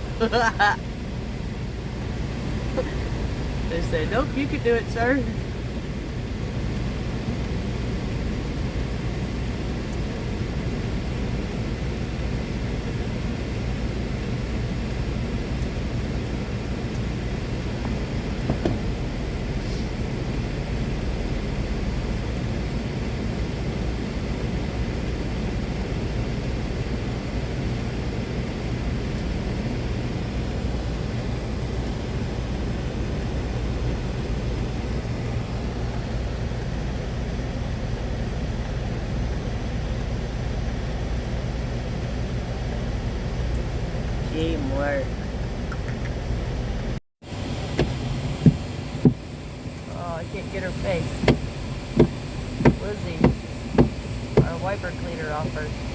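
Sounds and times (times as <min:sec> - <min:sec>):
vehicle engine droning: 0:00.0 - 0:55.9.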